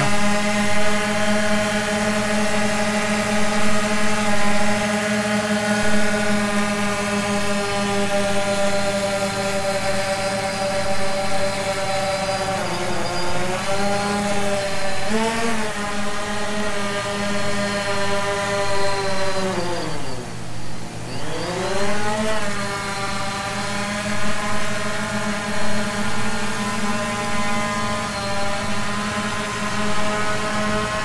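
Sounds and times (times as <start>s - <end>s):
quadcopter propellers buzzing: 0.0s - 31.0s.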